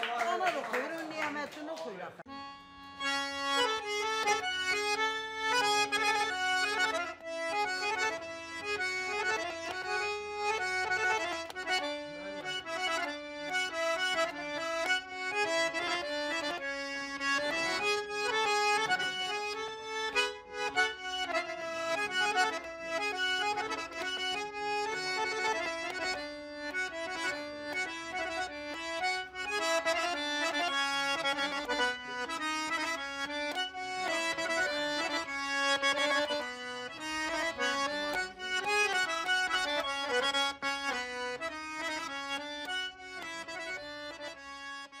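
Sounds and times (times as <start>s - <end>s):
accordion tune: 2.2s - 45.0s.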